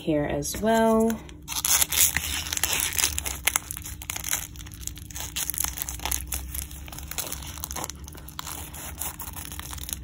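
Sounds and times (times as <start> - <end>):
packaging crinkling and rustling: 0.8 - 10.0.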